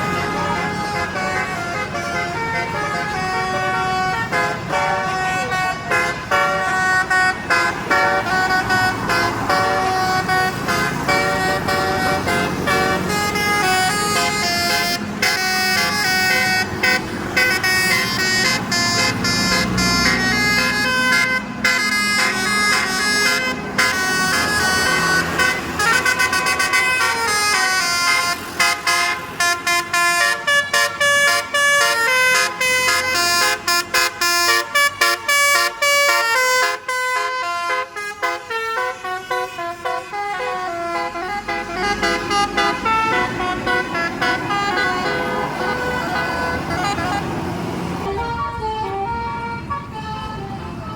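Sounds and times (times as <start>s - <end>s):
multi-tone bus horn melody: 0.0s - 50.9s.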